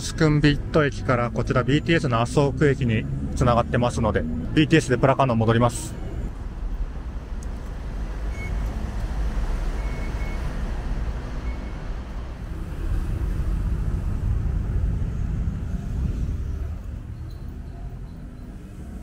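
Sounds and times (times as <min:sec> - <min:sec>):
station concourse rumble: 0:00.0 - 0:19.0.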